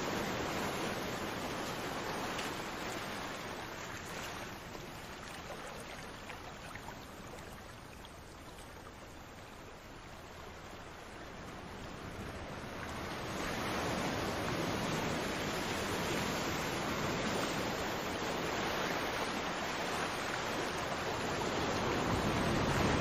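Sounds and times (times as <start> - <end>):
sea waves washing on shore: 0.0 - 23.0.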